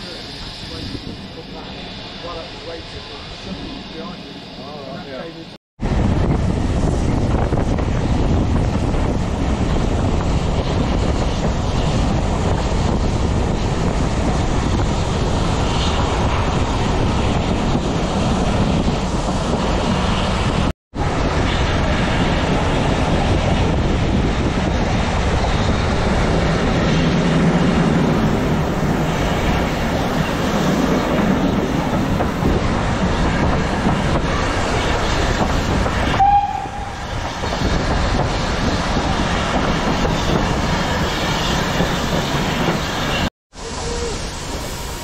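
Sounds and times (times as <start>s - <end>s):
wind on microphone: 5.8s - 45.0s.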